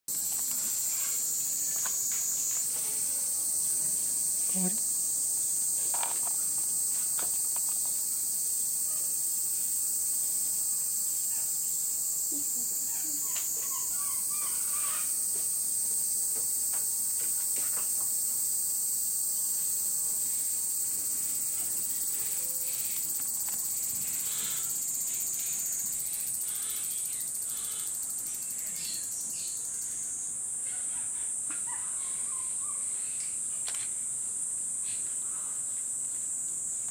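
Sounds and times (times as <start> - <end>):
insects droning: 0.1 - 36.9.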